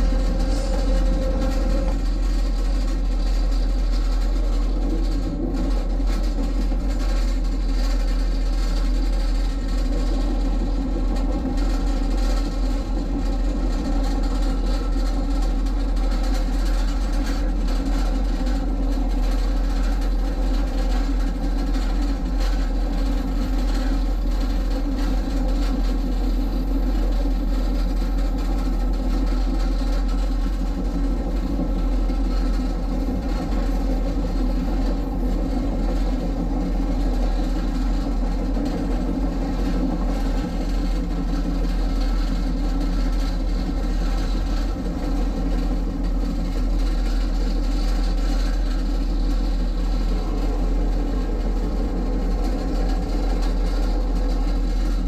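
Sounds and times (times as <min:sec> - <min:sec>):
train running along track: 0:00.0 - 0:55.0.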